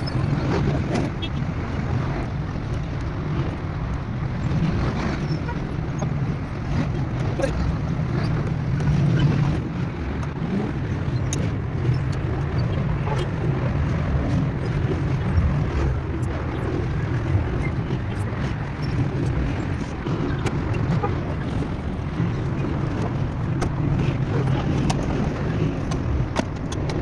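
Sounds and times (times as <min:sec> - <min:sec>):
motor vehicle rumbling: 0:00.0 - 0:27.0.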